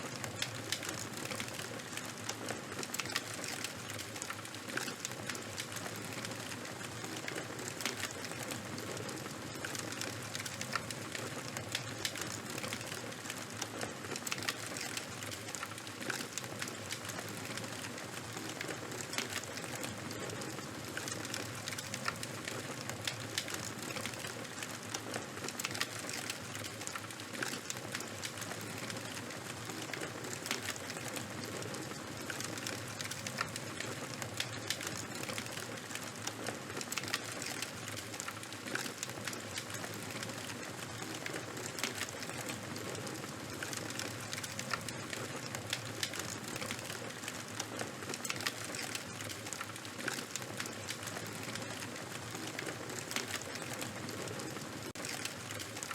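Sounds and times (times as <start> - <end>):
fire crackles and pops: 0.0 - 55.9
fire burning with hiss: 0.1 - 55.9.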